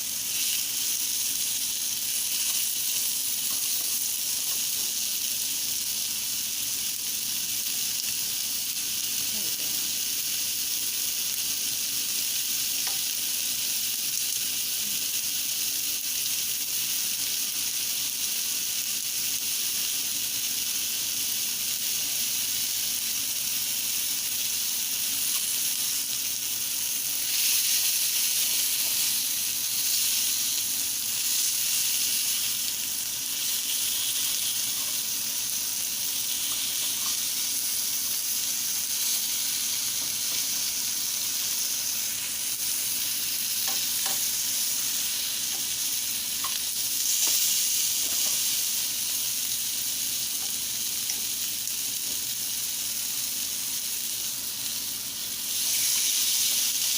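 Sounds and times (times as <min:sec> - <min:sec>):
chicken sizzling in a pan: 0:00.0 - 0:56.9.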